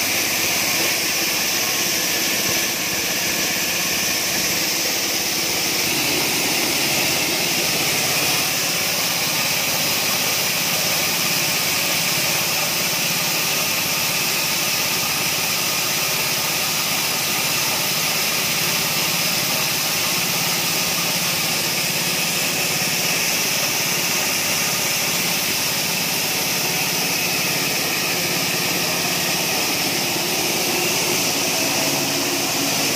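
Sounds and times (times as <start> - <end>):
small petrol engine running: 0.0 - 32.9.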